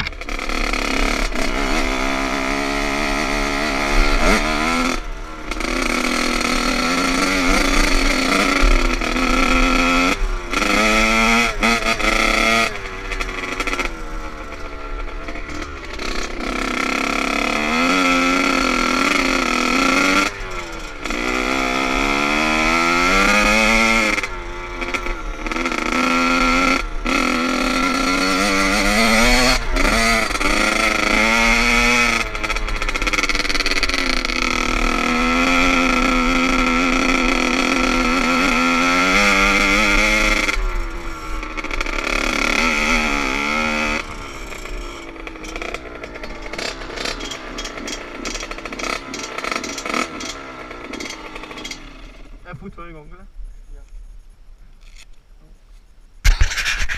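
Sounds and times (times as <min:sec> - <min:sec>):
dirt bike engine revving: 0:00.0 - 0:53.2, 0:56.2 - 0:56.9.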